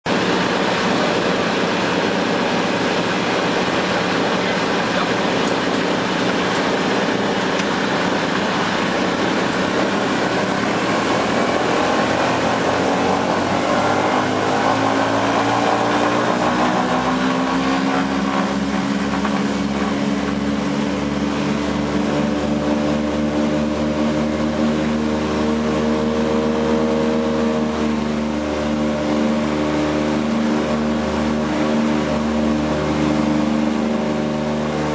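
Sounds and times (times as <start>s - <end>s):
pitched engine drone: 0.0s - 34.9s
propeller aircraft engines roaring: 0.0s - 34.9s.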